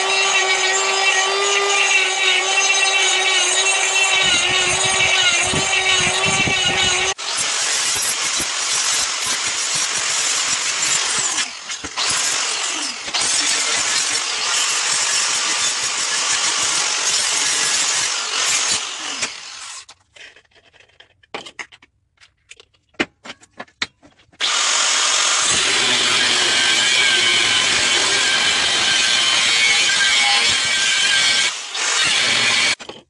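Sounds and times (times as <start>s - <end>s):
power tool running on steel: 0.0s - 19.9s, 24.4s - 32.8s.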